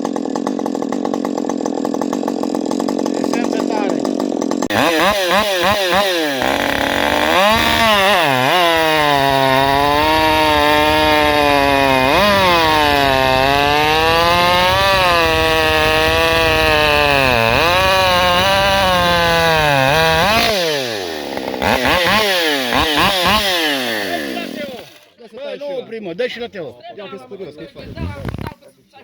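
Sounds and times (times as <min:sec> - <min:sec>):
chainsaw cutting wood: 0:00.0 - 0:25.2
chainsaw revving: 0:00.0 - 0:25.2.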